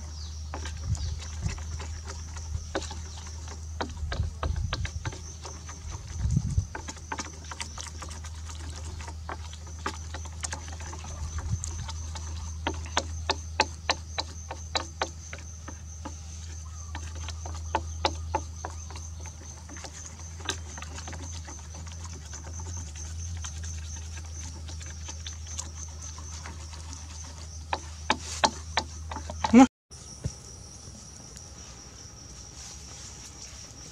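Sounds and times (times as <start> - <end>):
chopsticks stirring batter in metal tray: 0.0 - 29.7.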